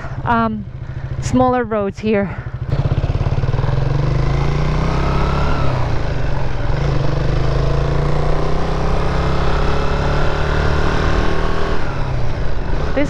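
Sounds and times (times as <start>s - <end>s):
motorcycle engine riding: 0.0s - 13.0s.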